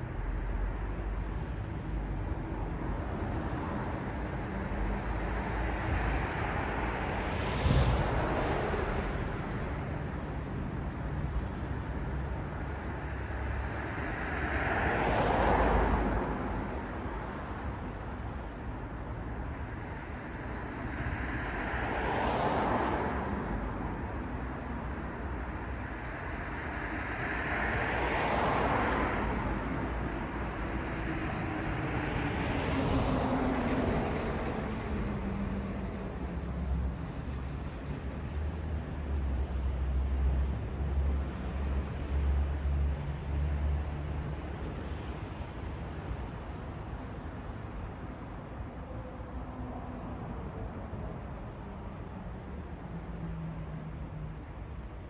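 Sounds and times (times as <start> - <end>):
low road hum: 0.0 - 55.0
cars passing: 0.1 - 55.0.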